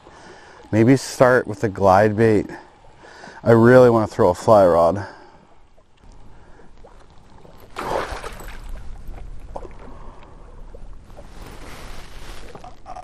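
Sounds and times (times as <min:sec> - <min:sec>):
small waves against a boat: 0:00.0 - 0:12.9.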